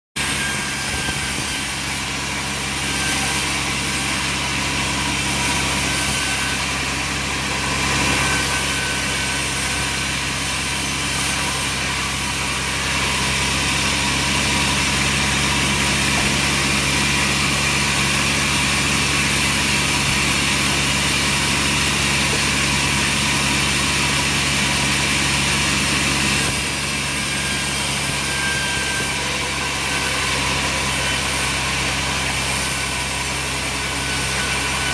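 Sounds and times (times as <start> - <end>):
sawmill machinery running: 0.2 - 34.9.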